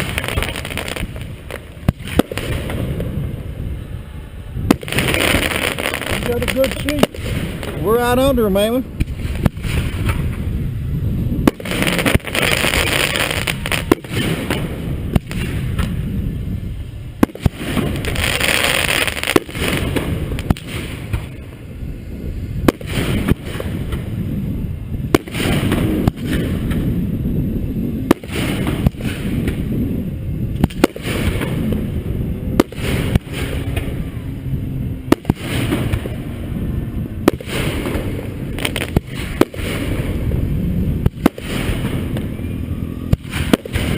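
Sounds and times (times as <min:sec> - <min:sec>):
fireworks booms and bangs: 0:00.0 - 0:03.6, 0:04.6 - 0:16.2, 0:17.2 - 0:21.5, 0:22.6 - 0:34.2, 0:35.0 - 0:42.4, 0:43.0 - 0:43.9
fireworks crackle: 0:00.0 - 0:43.9
low rumble: 0:00.0 - 0:43.9.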